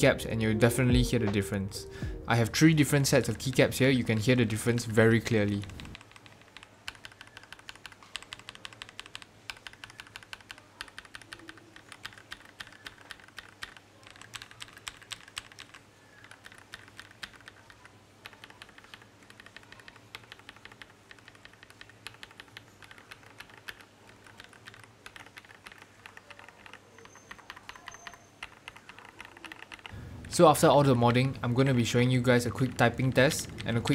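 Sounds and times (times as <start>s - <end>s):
mechanical keyboard typing: 3.0s - 33.9s.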